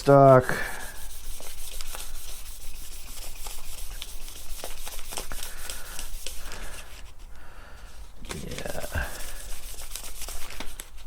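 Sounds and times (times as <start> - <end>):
sandpaper scratching on paint: 0.0 - 7.2, 8.5 - 11.0.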